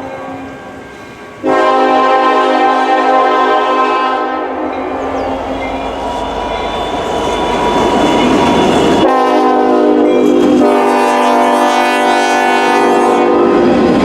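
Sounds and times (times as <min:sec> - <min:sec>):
train rumbling: 0:00.0 - 0:14.0
train air horn: 0:00.2 - 0:13.7.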